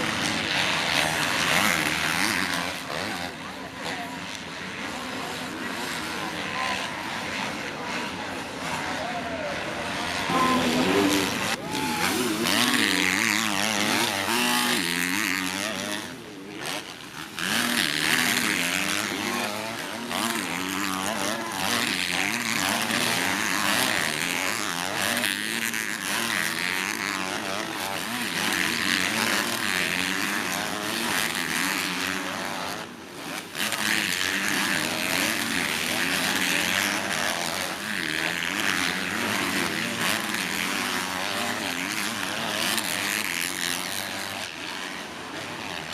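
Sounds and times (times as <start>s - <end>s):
motocross bikes revving: 0.0s - 45.9s.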